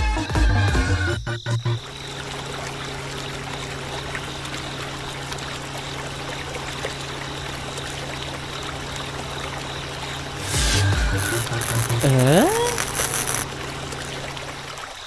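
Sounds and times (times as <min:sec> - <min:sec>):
water pouring and trickling: 0:01.8 - 0:15.0
water pump humming: 0:02.0 - 0:15.0.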